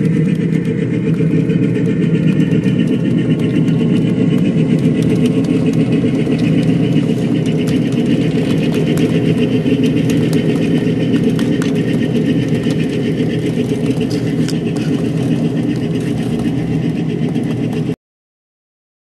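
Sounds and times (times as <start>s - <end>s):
small train engine droning: 0.0s - 18.0s.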